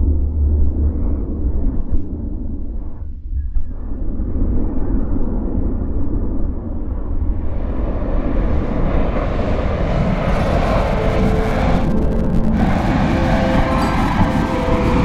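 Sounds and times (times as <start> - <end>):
low rumble of rushing air: 0.0 - 15.0.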